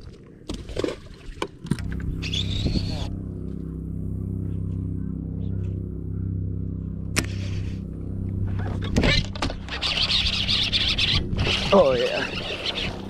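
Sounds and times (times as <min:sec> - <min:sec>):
boat motor humming: 0:01.6 - 0:13.0.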